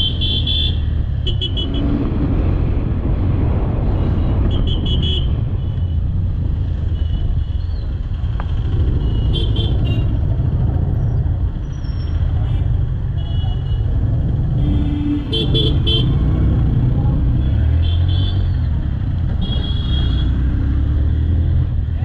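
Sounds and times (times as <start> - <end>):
road and wind rumble: 0.0 - 22.0.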